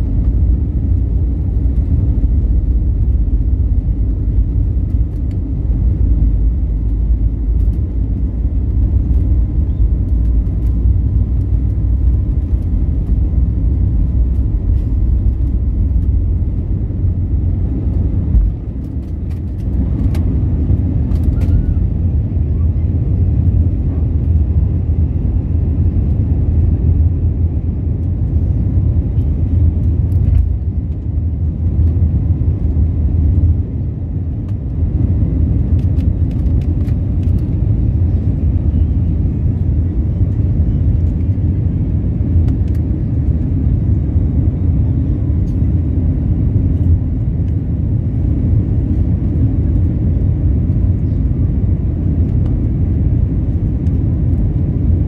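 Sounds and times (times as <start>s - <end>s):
jet engines at takeoff thrust: 0.0s - 55.0s
runway rumble: 0.0s - 55.0s.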